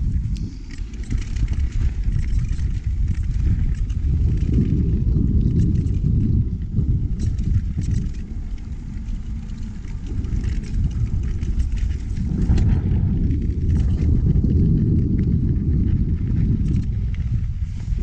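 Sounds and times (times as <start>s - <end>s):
bike clicks and clatter: 0.0s - 18.0s
wind and tyre rumble: 0.0s - 18.0s.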